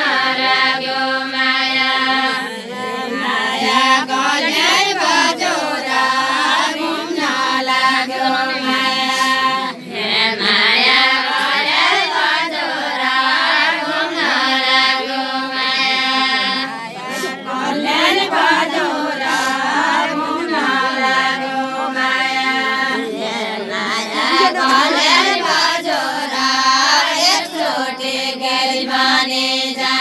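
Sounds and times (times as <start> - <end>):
women singing in unison: 0.0 - 30.0.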